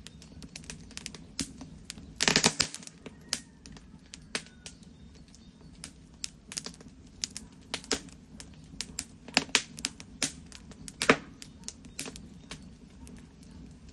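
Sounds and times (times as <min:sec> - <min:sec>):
fire crackling and popping: 0:00.0 - 0:13.9.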